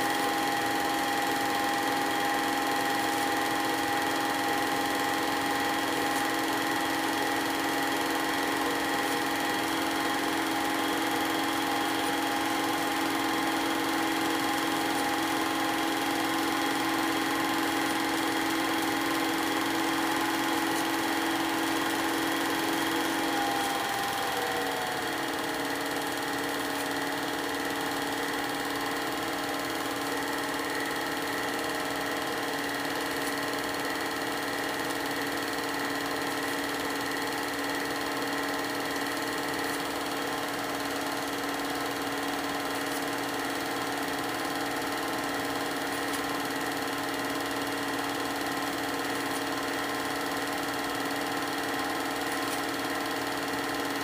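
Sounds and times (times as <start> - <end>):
film projector running: 0.0 - 54.0.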